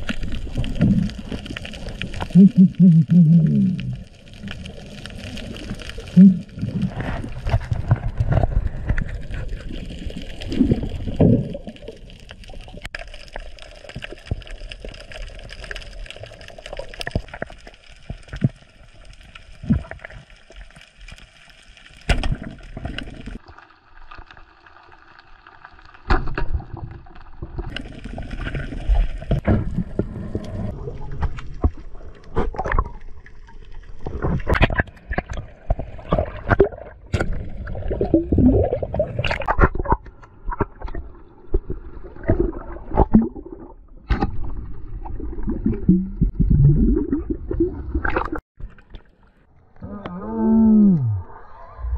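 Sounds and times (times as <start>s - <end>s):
muffled underwater water rumbling: 0.0s - 20.8s, 26.3s - 51.9s.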